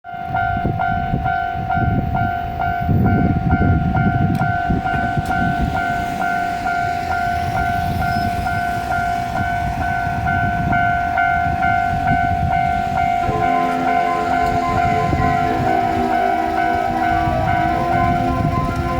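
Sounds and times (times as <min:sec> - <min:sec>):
diesel railcar rumbling: 0:00.0 - 0:18.9
level-crossing alarm ringing: 0:00.1 - 0:18.9
continuous alarm tone: 0:01.8 - 0:18.9.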